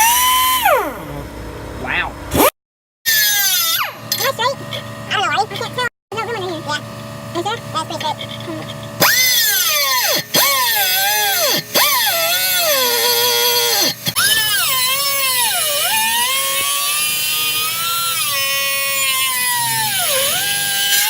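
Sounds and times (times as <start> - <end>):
power tool cutting steel pipe: 0.0 - 0.9, 3.1 - 21.0.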